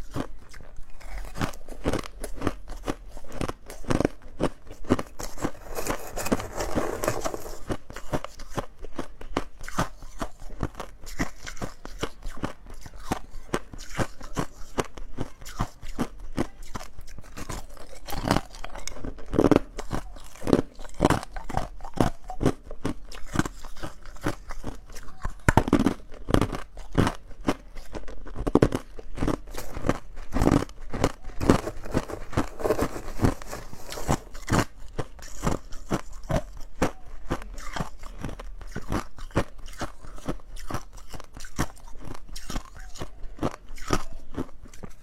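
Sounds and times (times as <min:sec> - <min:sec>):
ice crunching while chewed: 0:00.0 - 0:45.0.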